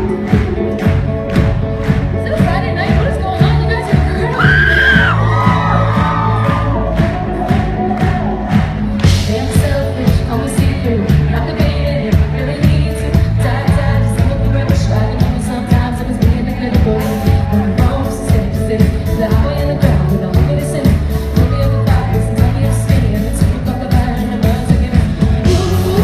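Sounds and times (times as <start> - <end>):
live pop band playing: 0.0 - 26.0
steady drum beat: 0.0 - 26.0
woman singing: 2.2 - 26.0.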